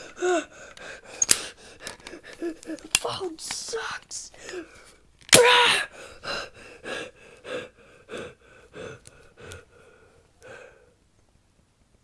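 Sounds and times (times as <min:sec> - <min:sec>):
person gasping: 0:00.0 - 0:11.0.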